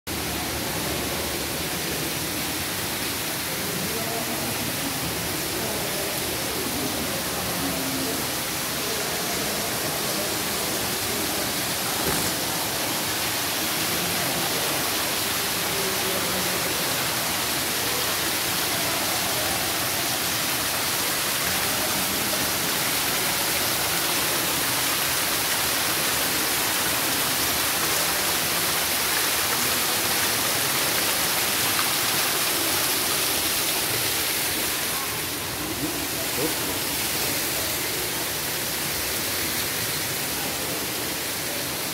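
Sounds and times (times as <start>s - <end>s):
waterfall splashing over rocks: 0.1s - 41.9s.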